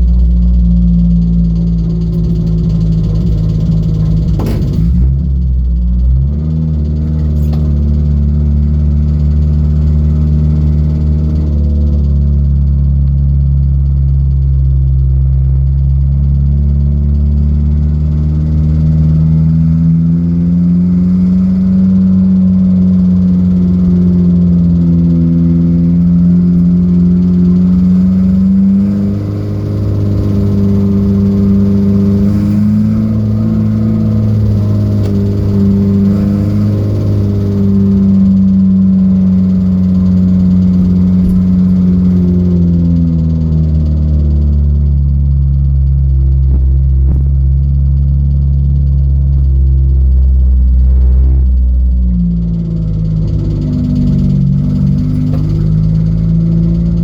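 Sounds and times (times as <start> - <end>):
car engine pulling hard: 0.0 - 57.0.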